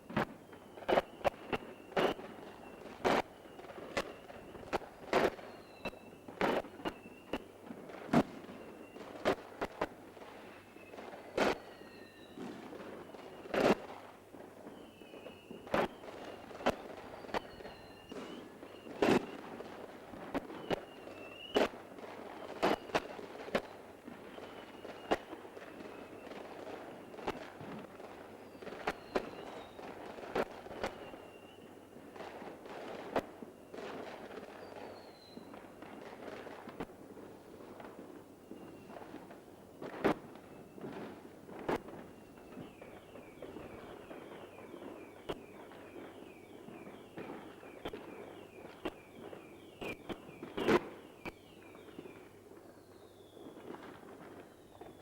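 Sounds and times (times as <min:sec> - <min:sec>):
fireworks banging: 0:00.0 - 0:14.1, 0:14.7 - 0:31.3, 0:32.1 - 0:52.1
short whistling tones: 0:00.3 - 0:07.6, 0:08.4 - 0:14.0, 0:14.7 - 0:19.6, 0:20.4 - 0:31.9, 0:33.6 - 0:35.6, 0:38.4 - 0:39.1, 0:41.8 - 0:55.0.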